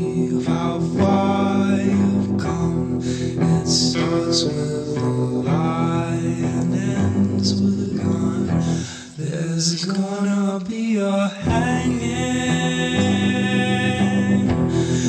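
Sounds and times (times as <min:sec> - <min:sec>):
guitar-led song with singing: 0:00.0 - 0:15.0.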